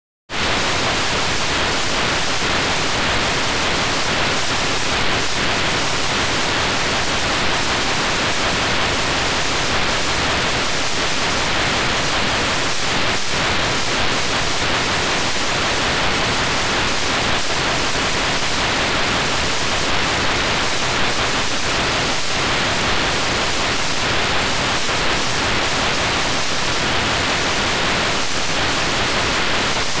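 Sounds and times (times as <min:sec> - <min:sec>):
tv static hiss: 0:00.3 - 0:30.0.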